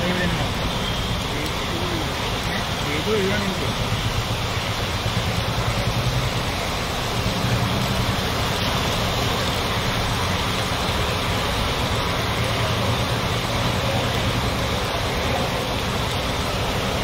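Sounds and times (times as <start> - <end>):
water splashing from car wheels: 0.0 - 17.0.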